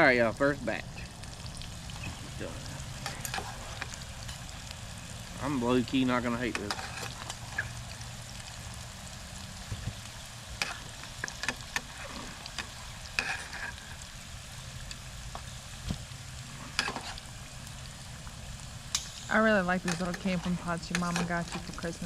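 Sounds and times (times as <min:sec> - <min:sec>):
oil sizzling in a pot: 0:01.1 - 0:05.4, 0:06.6 - 0:21.9.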